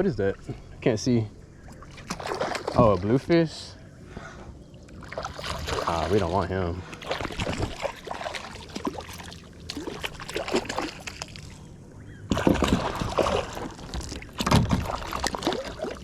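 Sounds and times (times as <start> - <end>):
water splashes: 1.6 - 3.4, 4.8 - 16.0.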